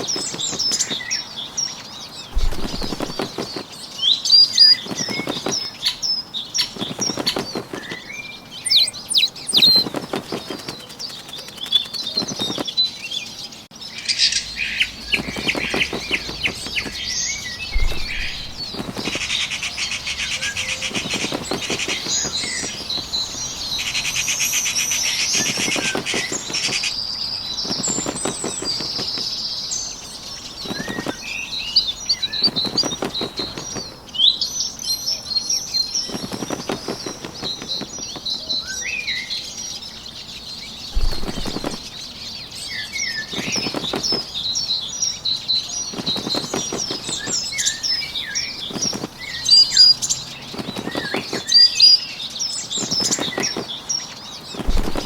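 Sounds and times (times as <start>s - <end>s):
bird wings flapping: 0.0s - 13.0s, 14.8s - 34.4s, 35.6s - 38.8s, 40.8s - 42.3s, 43.1s - 52.0s, 52.7s - 55.0s
small birds chirping: 0.0s - 55.0s.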